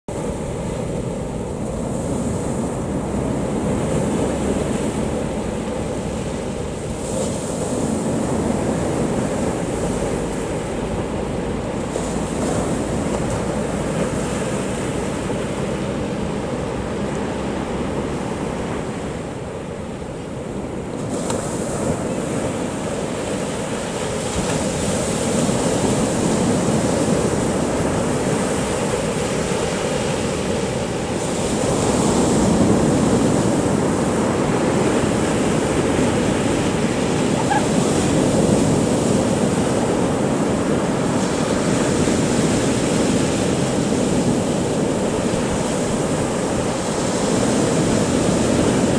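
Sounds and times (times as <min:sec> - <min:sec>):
sea waves breaking on beach: 0:00.1 - 0:48.9.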